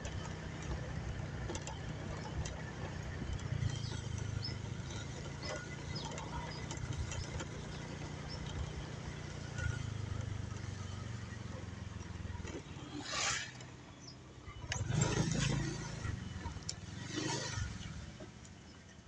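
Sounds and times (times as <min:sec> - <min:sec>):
small motorbike engine humming: 0:00.0 - 0:19.0.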